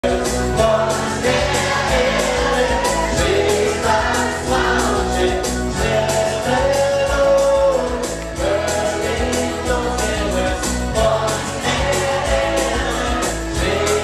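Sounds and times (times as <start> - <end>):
music with singing and heavy bass: 0.0 - 14.0.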